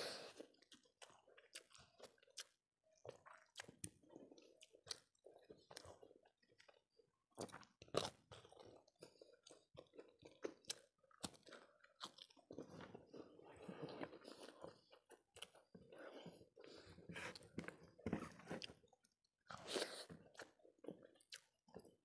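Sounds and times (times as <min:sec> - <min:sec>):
close chewing with crunches: 0:00.0 - 0:22.0.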